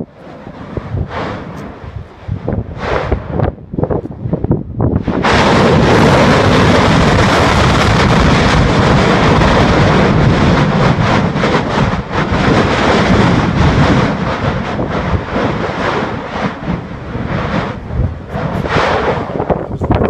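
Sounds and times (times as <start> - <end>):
volcano erupting with roar: 0.0 - 20.0.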